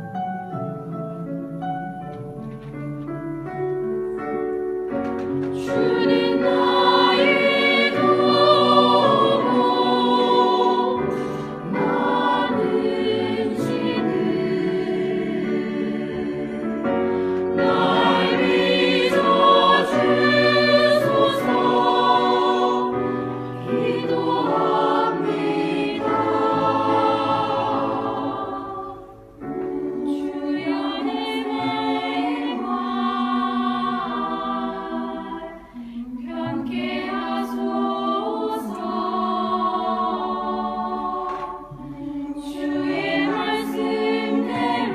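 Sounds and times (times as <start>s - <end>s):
choir singing a hymn: 0.0s - 2.6s, 5.1s - 44.9s.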